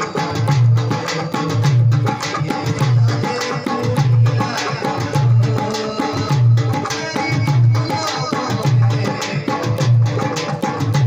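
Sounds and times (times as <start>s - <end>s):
hand drums: 0.0s - 11.0s.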